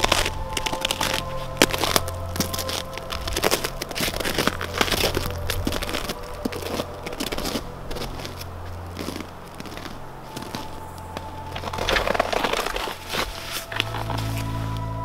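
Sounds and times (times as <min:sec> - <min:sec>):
footsteps crunching in snow: 0:00.0 - 0:15.0
low steady hum: 0:00.0 - 0:15.0.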